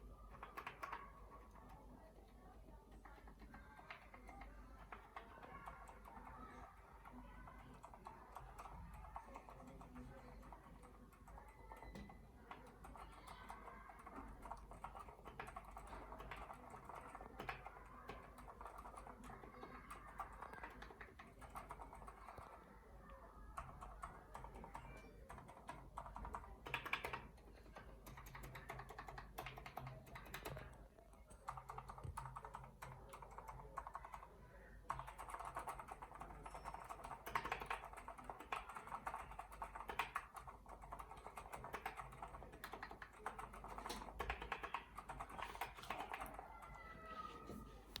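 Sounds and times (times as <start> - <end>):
mechanical keyboard typing: 0.0 - 46.8.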